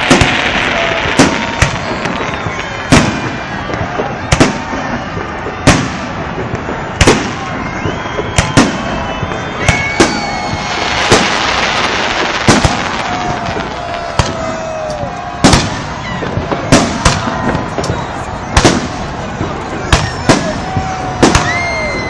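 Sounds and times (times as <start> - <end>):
firework bangs: 0.0 - 22.0
firework crackle: 0.0 - 22.0
firework whistling: 0.0 - 22.0.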